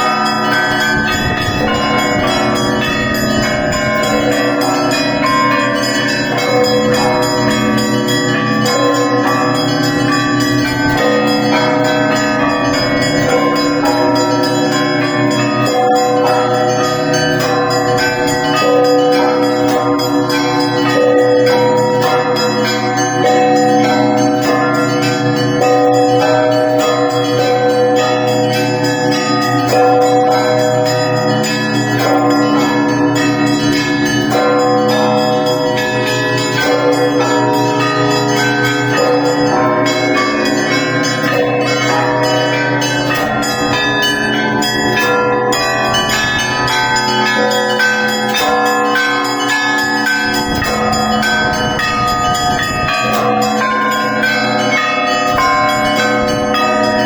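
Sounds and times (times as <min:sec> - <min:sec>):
low bells humming: 0:00.0 - 0:57.0
smaller bells striking: 0:00.0 - 0:57.0.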